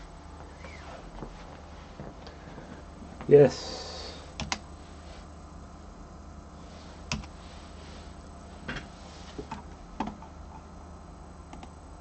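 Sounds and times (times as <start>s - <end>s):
desktop computer hum: 0.0s - 12.0s.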